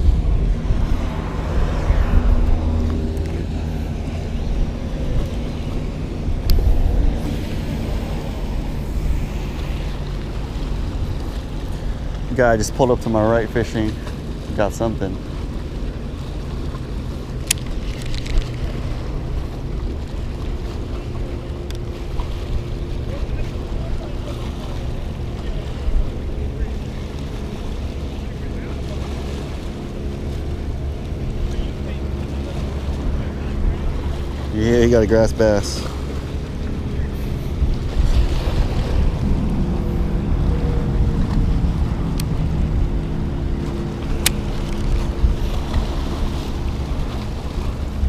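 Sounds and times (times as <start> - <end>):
motor engine humming: 0.0 - 48.0
waves washing on rocky shore: 0.0 - 48.0
wind rumbling on microphone: 0.0 - 48.0.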